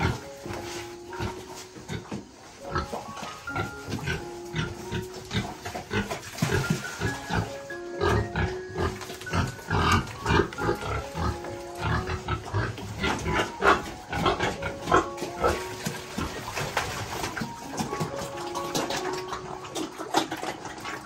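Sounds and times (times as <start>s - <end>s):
background music: 0.0s - 21.0s
pigs grunting: 0.0s - 21.0s.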